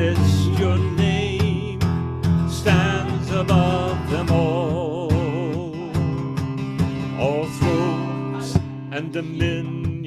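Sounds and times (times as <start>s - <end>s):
person singing with vibrato: 0.0s - 1.9s, 2.5s - 6.4s, 7.2s - 10.0s
strummed acoustic guitar: 0.0s - 10.0s.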